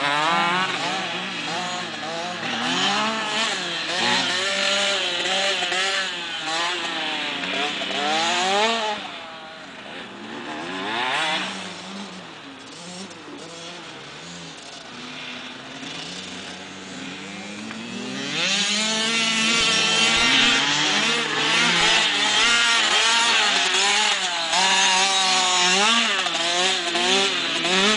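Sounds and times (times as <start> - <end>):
motocross bike engine revving: 0.0 - 27.9.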